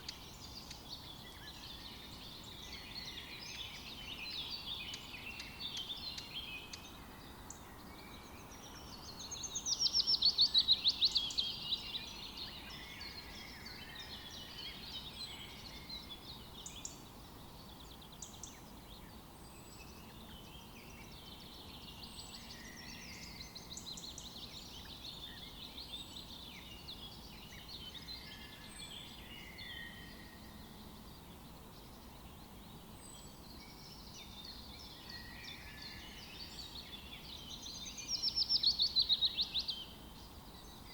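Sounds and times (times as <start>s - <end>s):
birds chirping and singing: 0.0s - 40.9s
faint outdoor hiss: 0.0s - 40.9s.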